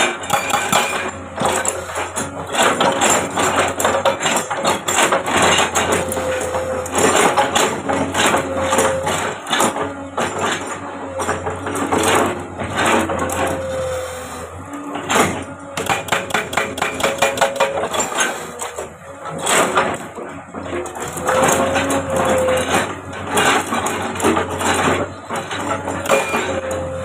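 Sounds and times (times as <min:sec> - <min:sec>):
excavator engine and hydraulics hum: 0:00.0 - 0:27.0.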